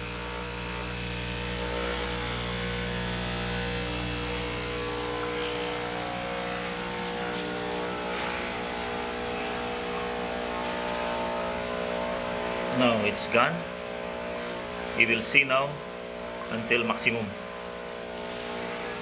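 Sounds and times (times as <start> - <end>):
water pump buzzing hum: 0.0 - 19.0.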